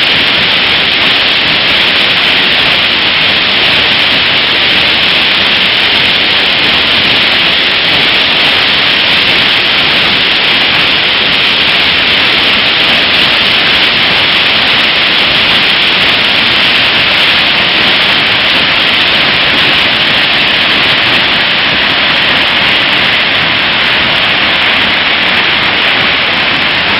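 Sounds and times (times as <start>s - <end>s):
roar of falling water: 0.0s - 26.9s.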